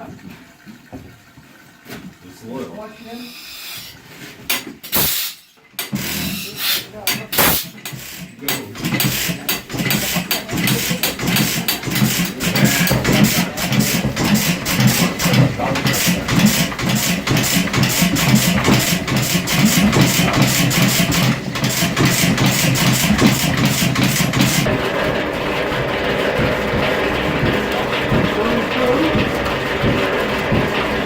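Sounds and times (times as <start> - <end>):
gasoline engine running: 4.6 - 31.0.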